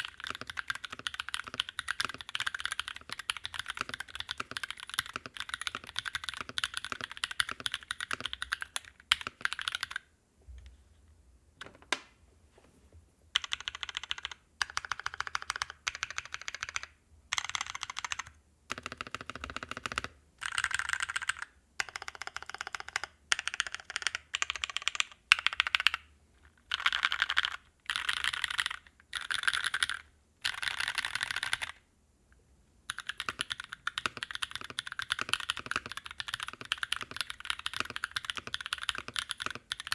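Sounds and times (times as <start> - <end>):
typing on mechanical keyboard: 0.0 - 10.0, 13.4 - 26.0, 26.7 - 31.8, 32.9 - 39.9.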